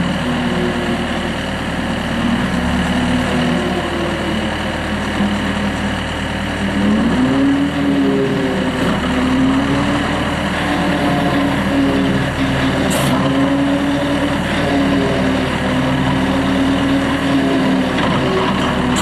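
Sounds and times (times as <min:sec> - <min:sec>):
loader engine under hydraulic load: 0:00.0 - 0:19.0.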